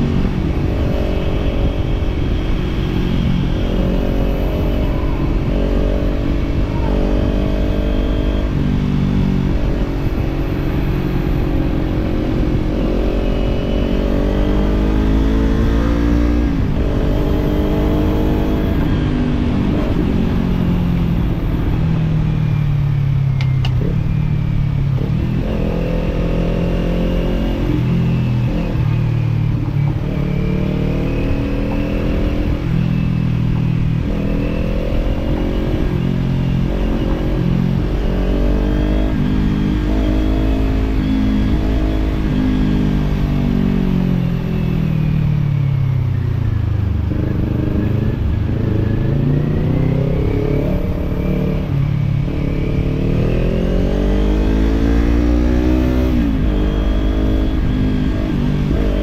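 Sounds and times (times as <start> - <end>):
low wind rumble: 0.0 - 59.0
motorcycle engine accelerating: 0.0 - 59.0.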